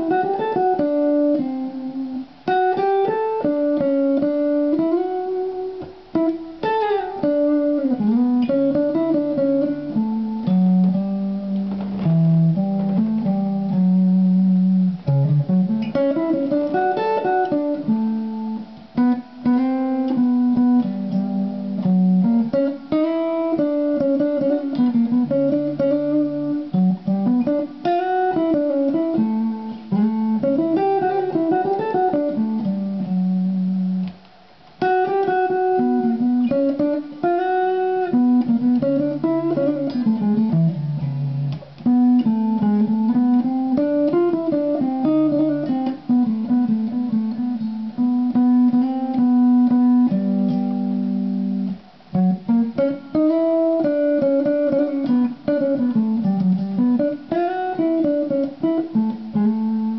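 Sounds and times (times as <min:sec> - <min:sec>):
solo electric guitar: 0:00.0 - 0:59.9.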